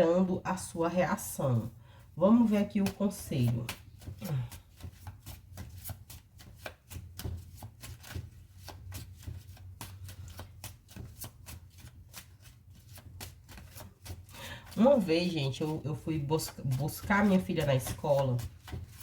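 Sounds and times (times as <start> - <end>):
cards being shuffled: 2.4 - 19.0.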